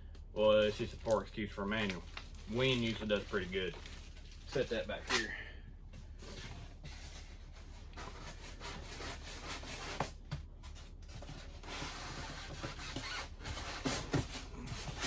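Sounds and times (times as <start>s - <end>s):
styrofoam and cardboard scraping: 1.7s - 5.3s, 6.1s - 15.0s.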